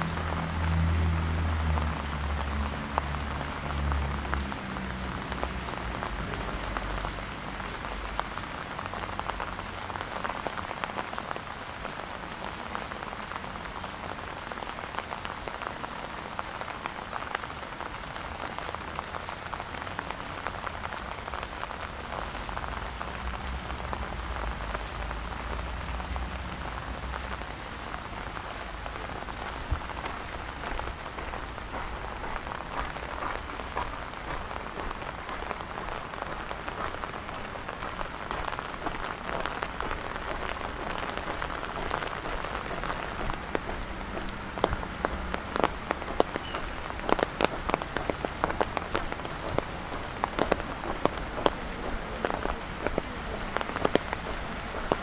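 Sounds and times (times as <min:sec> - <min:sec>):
rain drops pattering: 0:00.0 - 0:55.0.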